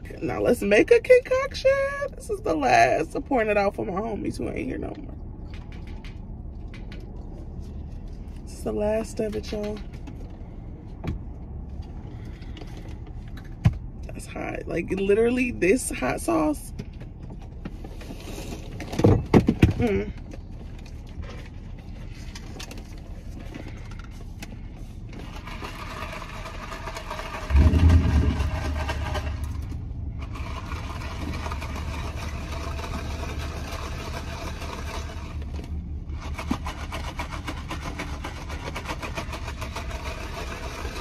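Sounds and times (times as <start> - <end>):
car engine starting and idling: 0.0 - 41.0.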